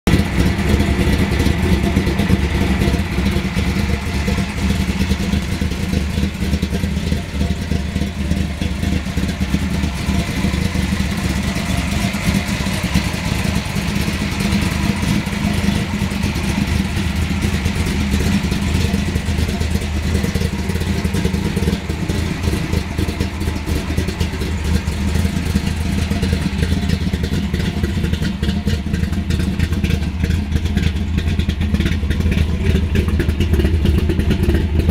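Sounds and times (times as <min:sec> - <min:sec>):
vee eight engine idling: 0:00.1 - 0:34.9.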